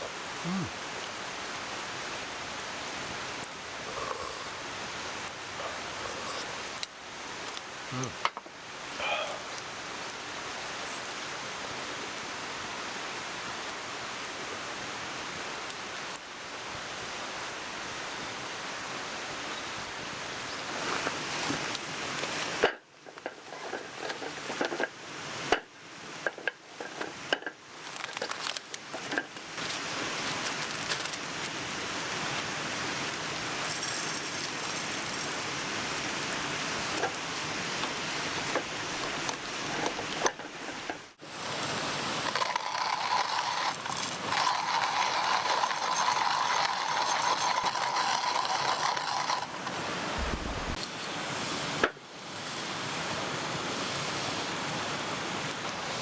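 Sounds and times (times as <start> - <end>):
mountain stream rushing: 0.0 - 22.6, 31.2 - 56.0.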